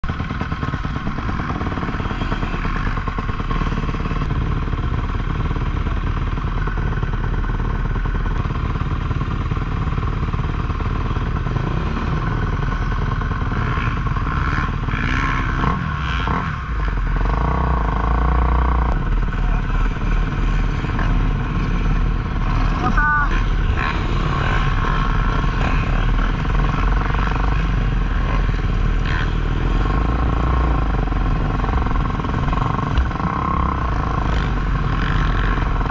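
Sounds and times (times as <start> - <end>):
motocross engine revving: 0.0 - 35.9.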